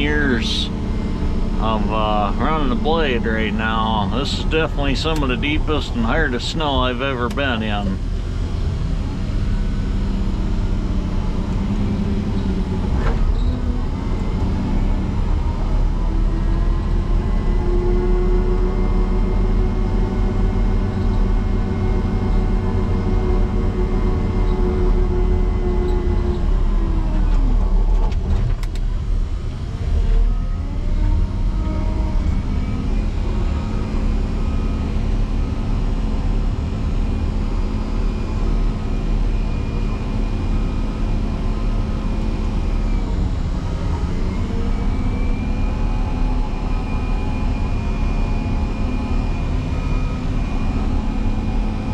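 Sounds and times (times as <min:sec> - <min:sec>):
diesel engine straining: 0:00.0 - 0:51.9.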